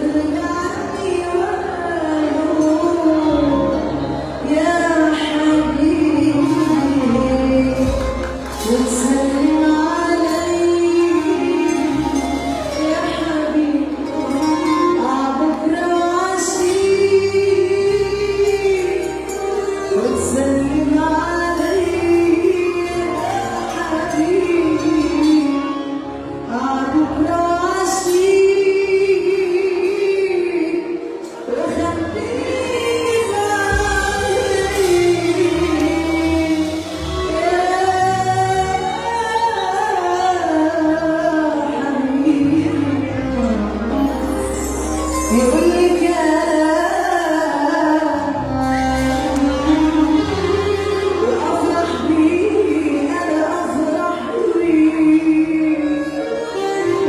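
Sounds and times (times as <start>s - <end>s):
instrumental backing with bass: 0.0s - 57.0s
woman singing: 0.0s - 57.0s
band accompaniment: 0.1s - 57.0s.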